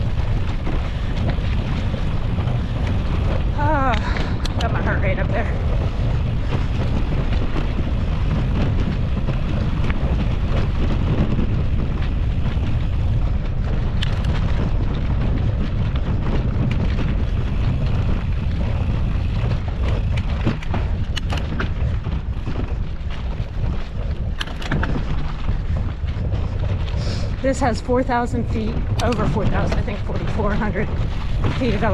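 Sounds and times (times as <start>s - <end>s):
bike clicks and rattles: 0.0s - 31.9s
bike tyre noise: 0.0s - 31.9s
wind on microphone: 0.0s - 31.9s.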